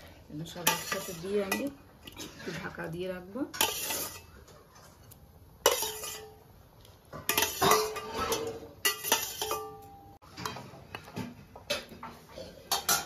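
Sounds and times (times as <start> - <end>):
metal utensils clanking on pot: 0.4 - 13.0.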